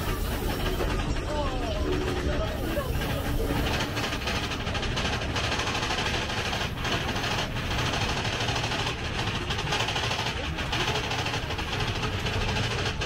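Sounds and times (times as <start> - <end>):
roller coaster wheels rattling on rails: 0.0 - 13.0.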